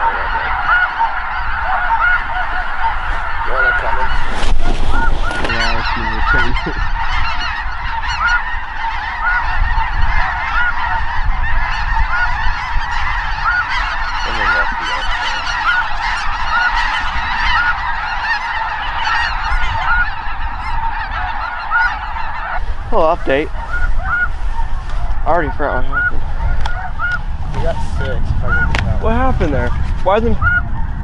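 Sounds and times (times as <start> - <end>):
geese honking: 0.0 - 31.0.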